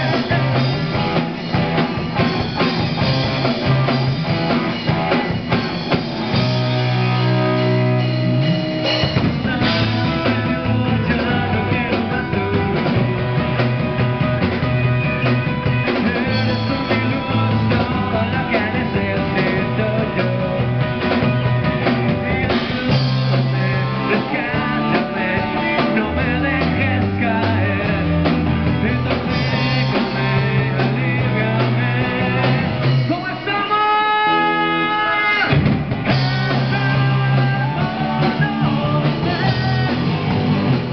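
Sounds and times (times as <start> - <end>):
person singing: 0.0 - 1.2, 6.3 - 40.4
bass guitar: 0.0 - 40.9
drum kit: 0.0 - 40.9
electric guitars: 0.0 - 40.9.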